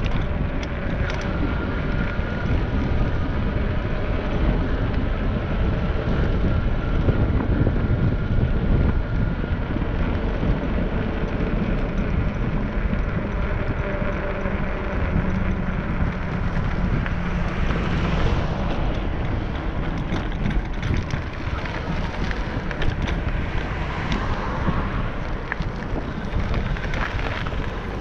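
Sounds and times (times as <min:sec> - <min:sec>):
low road rumble: 0:00.0 - 0:28.0
wind buffeting microphone: 0:00.0 - 0:28.0.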